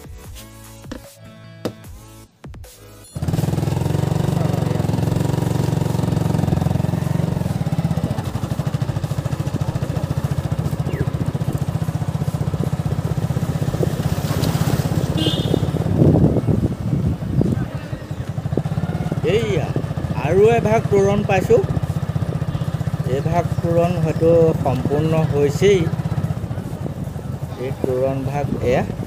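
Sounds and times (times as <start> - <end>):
motorcycle engine running: 3.2 - 29.0.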